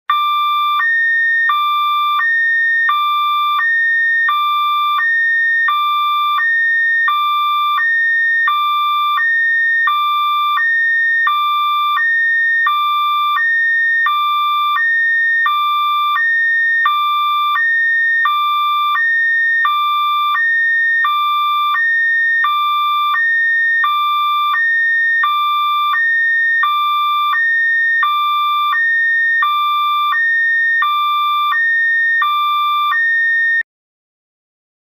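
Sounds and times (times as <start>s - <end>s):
electronic two-tone alarm: 0.1s - 33.7s.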